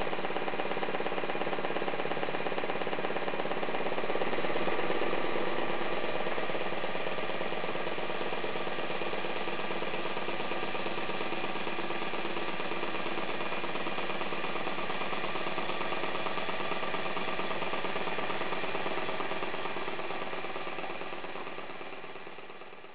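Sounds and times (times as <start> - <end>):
stirling engine mechanical rattle: 0.0 - 22.8.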